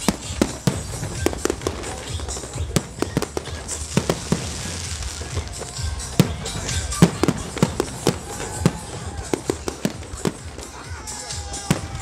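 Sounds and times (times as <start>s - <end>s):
firework shells bursting: 0.0s - 10.8s
crackling hiss of stars: 0.0s - 12.0s.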